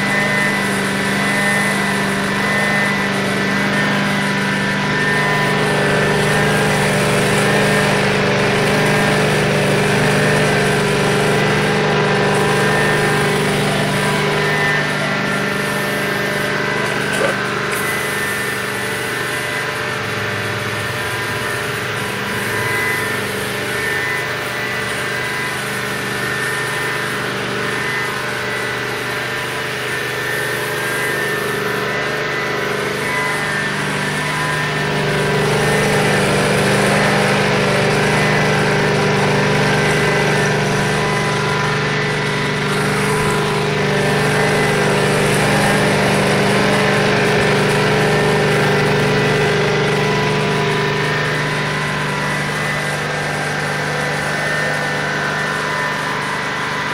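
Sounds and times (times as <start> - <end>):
gas engine running with blower: 0.0 - 56.9.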